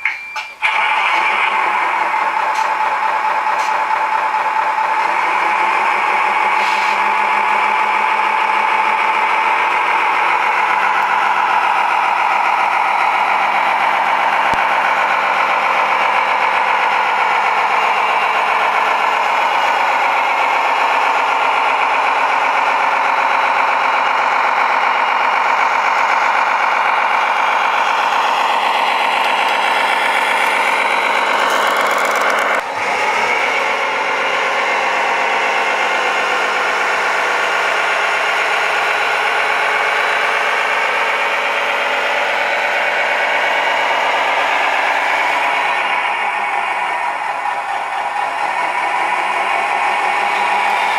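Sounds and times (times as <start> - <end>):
toy truck engine drone: 0.6 - 50.9.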